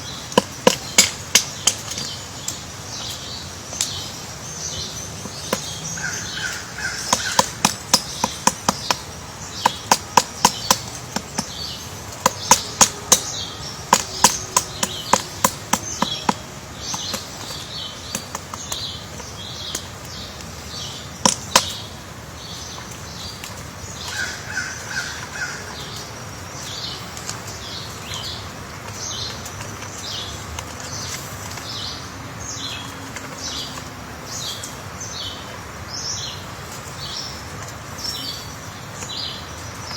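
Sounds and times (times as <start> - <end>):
woodpecker knocking on wood: 0.0 - 32.0.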